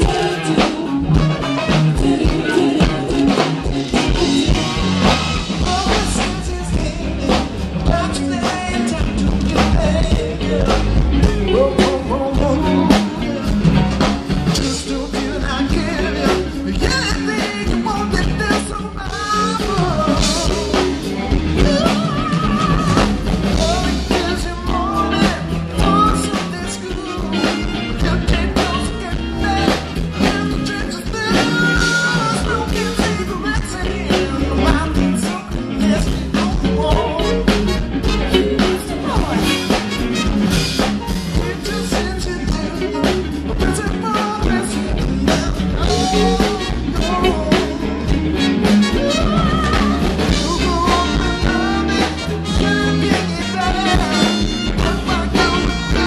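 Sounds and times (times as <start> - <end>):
lead vocal singing: 0.0 - 56.0
rock band playing: 0.0 - 56.0.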